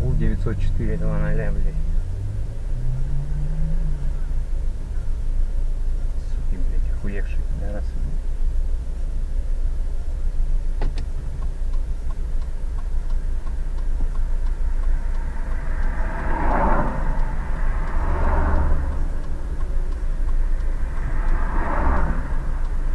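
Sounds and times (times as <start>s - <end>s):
car driving on road rumble: 0.0s - 22.9s.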